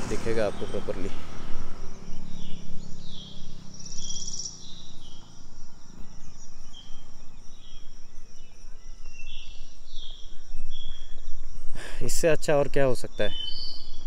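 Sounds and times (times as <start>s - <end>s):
low hum: 0.0s - 11.7s
birds and insects chirping: 0.0s - 14.0s
fast-pulsing insect trill: 0.2s - 14.0s.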